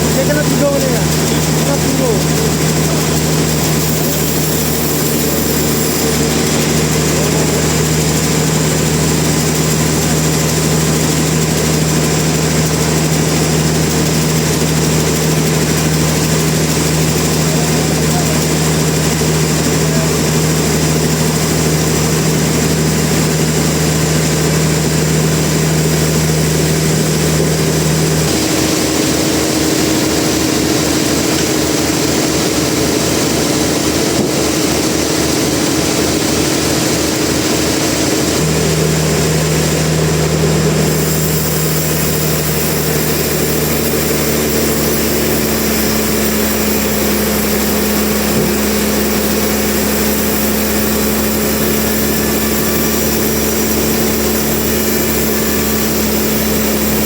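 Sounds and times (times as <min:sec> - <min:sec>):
fast low pulsing: 0:00.0 - 0:57.0
sawmill machinery drone: 0:00.0 - 0:57.0.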